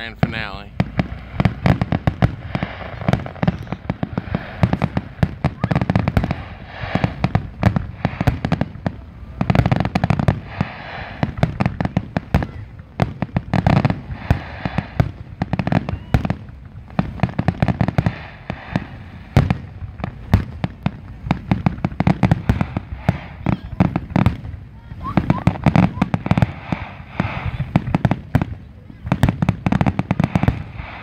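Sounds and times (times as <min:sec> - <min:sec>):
fireworks bursting: 0:00.0 - 0:31.0
heavy booming fireworks: 0:00.0 - 0:31.0.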